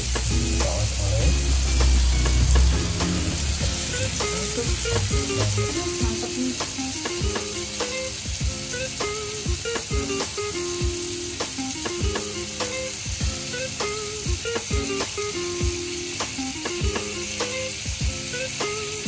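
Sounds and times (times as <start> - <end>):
music with steady beat: 0.0 - 19.0
squid sizzling on a pan: 0.0 - 19.0.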